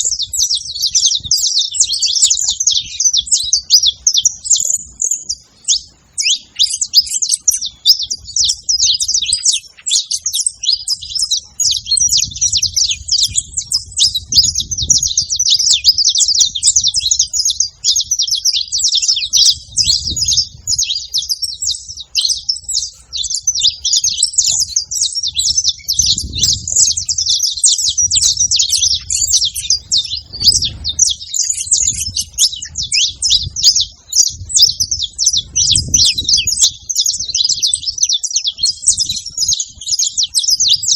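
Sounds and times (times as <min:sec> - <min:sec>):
finches chirping and singing: 0:00.0 - 0:40.9.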